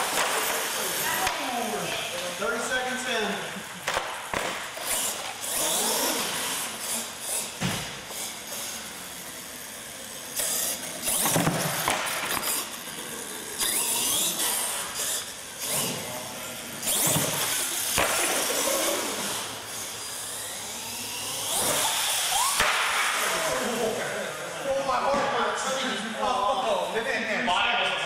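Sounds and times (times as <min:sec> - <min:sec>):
toy truck motor revving: 0:00.0 - 0:25.0.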